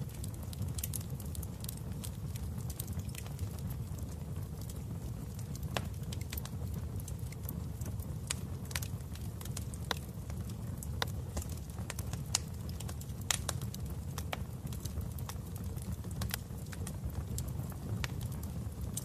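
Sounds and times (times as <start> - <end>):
burning logs popping and crackling: 0.0 - 19.0
low rumble of flames: 0.0 - 19.0.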